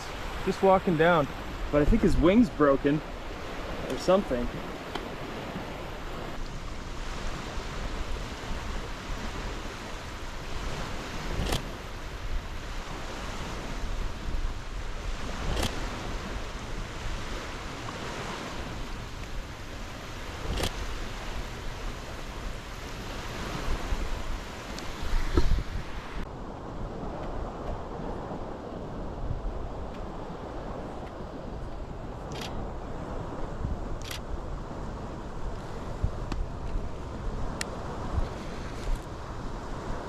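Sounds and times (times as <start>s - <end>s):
waves washing on beach: 0.0s - 40.0s
wind: 0.0s - 40.0s.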